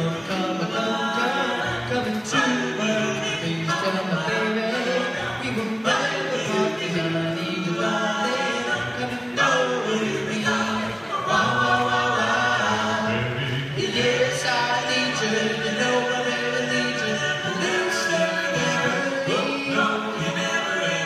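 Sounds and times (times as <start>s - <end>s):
vocal group singing a cappella: 0.0s - 21.0s.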